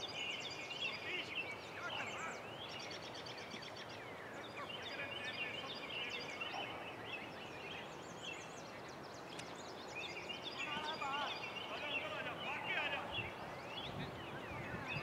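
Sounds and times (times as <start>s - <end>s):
background hiss: 0.0s - 15.0s
birds chirping and trilling: 0.0s - 15.0s.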